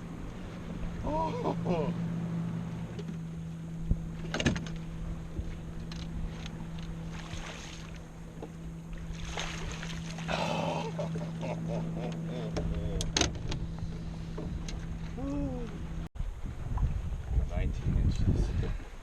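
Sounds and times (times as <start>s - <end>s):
boat motor humming: 0.0s - 17.4s.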